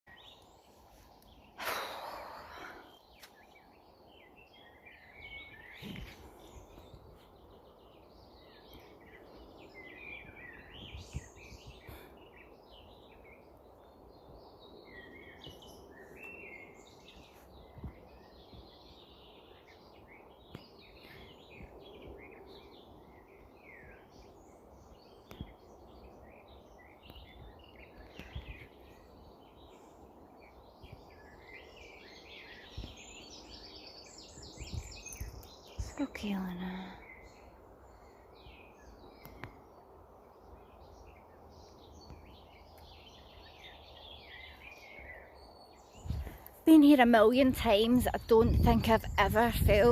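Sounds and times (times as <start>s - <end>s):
birds singing and chirping: 0.1s - 49.9s.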